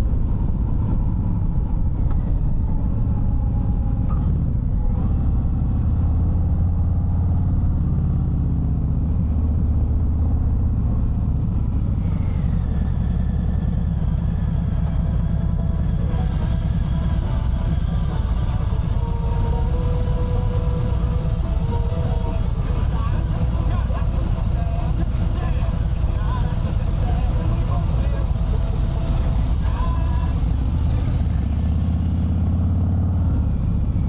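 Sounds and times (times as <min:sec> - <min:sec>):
motorcycle engine rumble: 0:00.0 - 0:34.0.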